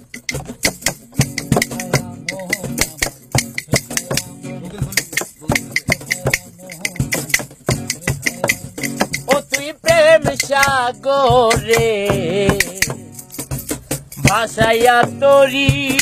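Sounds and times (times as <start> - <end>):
hand percussion beat: 0.0 - 16.0
shaker: 0.0 - 16.0.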